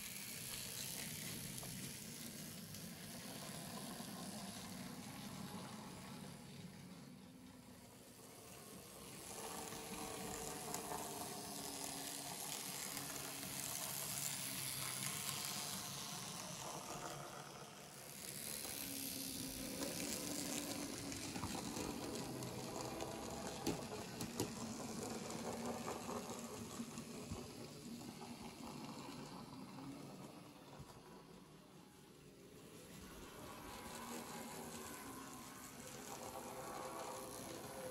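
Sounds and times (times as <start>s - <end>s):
model steam locomotive hissing: 0.0s - 37.9s
whirring whining mechanism: 0.0s - 37.9s.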